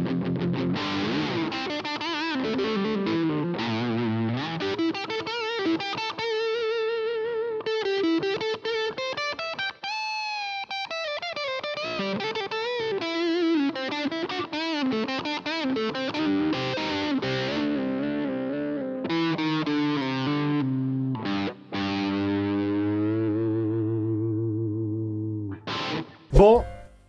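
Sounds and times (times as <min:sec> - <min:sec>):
electric guitar lead lines: 0:00.0 - 0:27.0.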